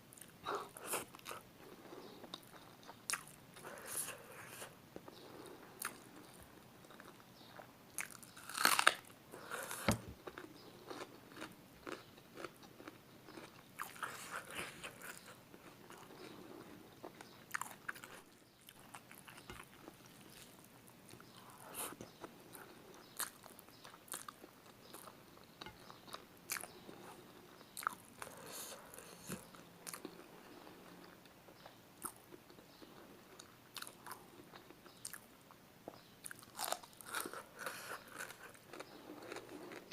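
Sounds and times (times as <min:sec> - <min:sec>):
biting crunching and chewing: 0:06.9 - 0:35.2, 0:35.9 - 0:39.9.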